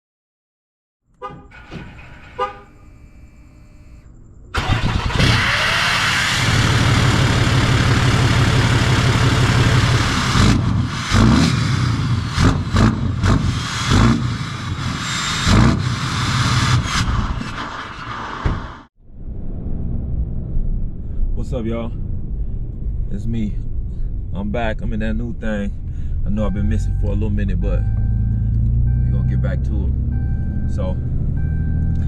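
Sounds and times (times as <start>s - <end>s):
truck engine starting and revving: 4.5s - 32.0s.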